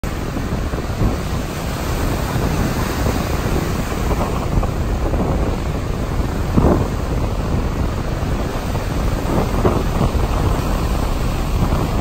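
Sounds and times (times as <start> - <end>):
rough surf breaking: 0.0 - 12.0
wind buffeting microphone: 0.0 - 12.0.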